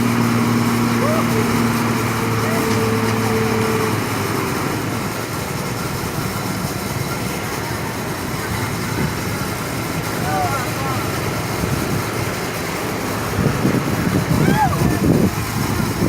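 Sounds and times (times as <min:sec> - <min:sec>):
heavy paving machine engines: 0:00.0 - 0:16.0
pitched hum: 0:00.0 - 0:16.0.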